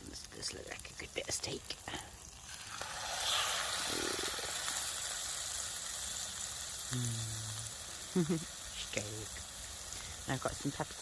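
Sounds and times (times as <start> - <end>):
steak sizzling in a pan: 0.0 - 11.0.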